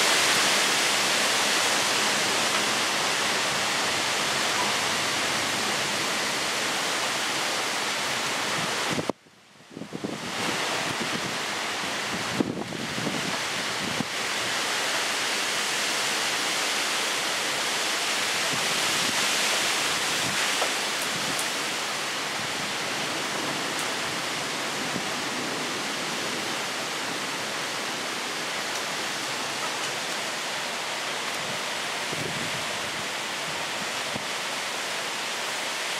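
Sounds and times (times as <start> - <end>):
heavy rain downpour: 0.0 - 35.9
wind in trees: 0.0 - 35.9.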